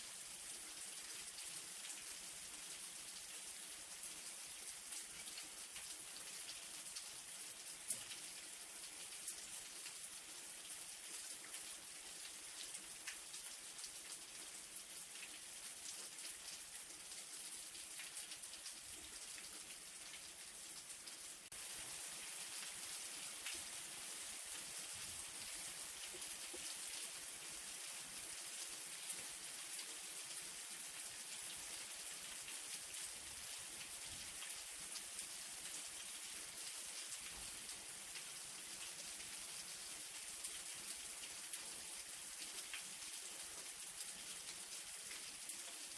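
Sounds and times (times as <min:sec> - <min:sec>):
light rain falling: 0:00.0 - 0:45.9
raindrops ticking on a surface: 0:00.4 - 0:45.9.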